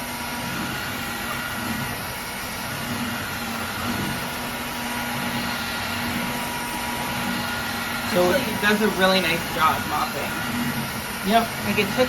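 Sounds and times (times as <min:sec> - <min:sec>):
wet-dry vacuum running: 0:00.0 - 0:12.0.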